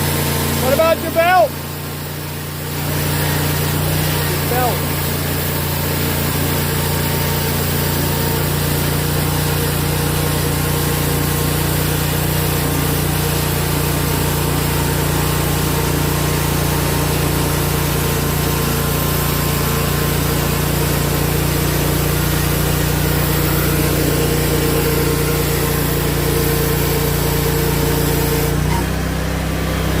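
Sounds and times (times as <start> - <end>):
small gasoline engine running: 0.0 - 30.0.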